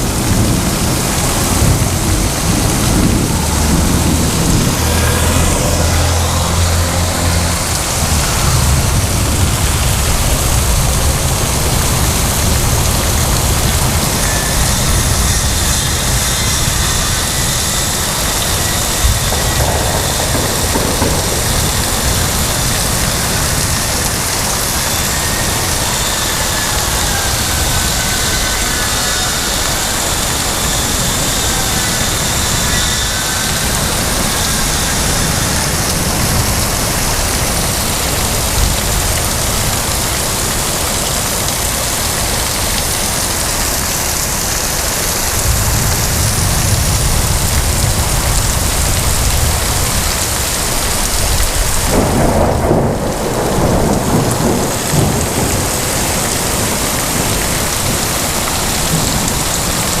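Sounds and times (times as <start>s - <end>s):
heavy rain: 0.0s - 60.0s
thunder rumbling: 0.0s - 60.0s.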